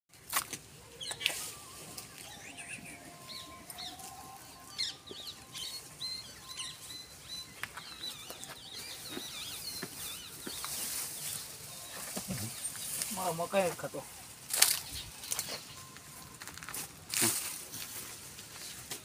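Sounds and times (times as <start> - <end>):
small birds chirping: 0.8 - 16.4.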